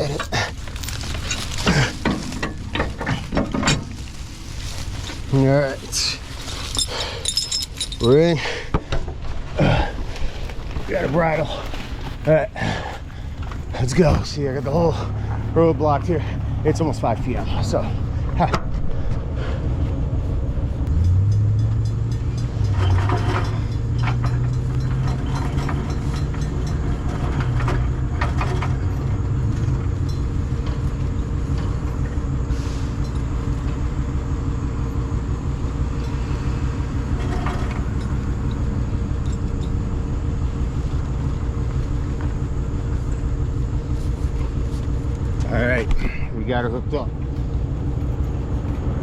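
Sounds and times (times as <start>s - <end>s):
chain clanking and rattling: 0.0s - 18.0s, 20.9s - 49.0s
tow truck engine running: 0.0s - 49.0s.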